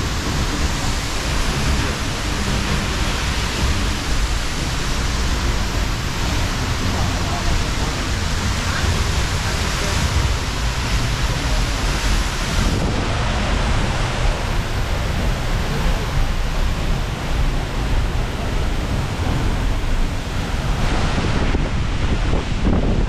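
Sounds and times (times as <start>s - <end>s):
waterfall rushing: 0.0s - 23.0s
wind buffeting microphone: 0.0s - 23.0s.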